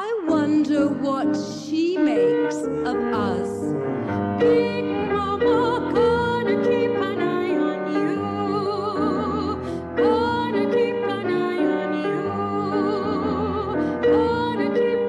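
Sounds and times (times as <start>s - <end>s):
person singing with vibrato: 0.0s - 15.0s.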